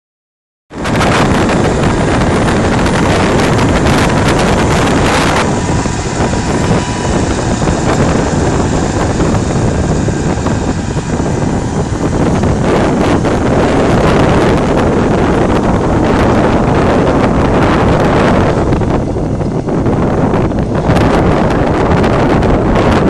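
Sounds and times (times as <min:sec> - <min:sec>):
wind noise on microphone: 0:00.7 - 0:23.0
tractor engine running: 0:00.8 - 0:23.0.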